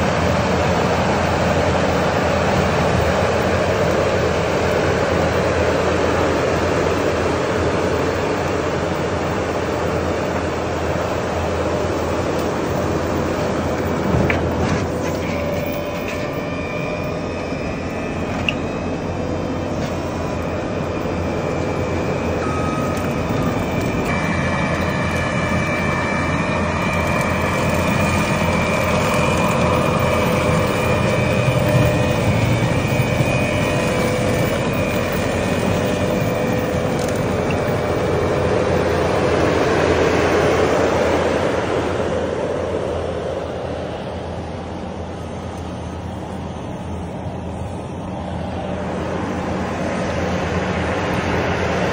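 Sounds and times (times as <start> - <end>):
brush cutter whine: 0.0 - 46.5
loader engine running hard: 0.0 - 51.9.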